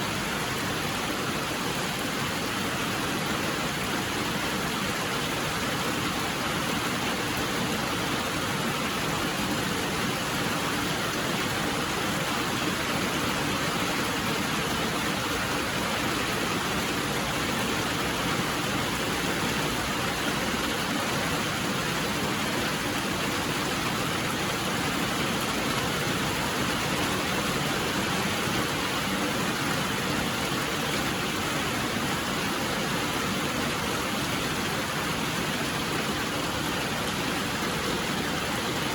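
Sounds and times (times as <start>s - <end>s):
steady rainfall hiss: 0.0s - 38.9s.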